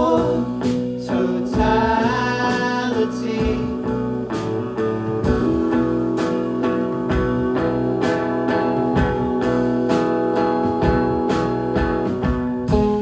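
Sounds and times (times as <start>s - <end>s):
drum strokes: 0.0s - 13.0s
live band playing: 0.0s - 13.0s
sustained guitar chords: 0.0s - 13.0s.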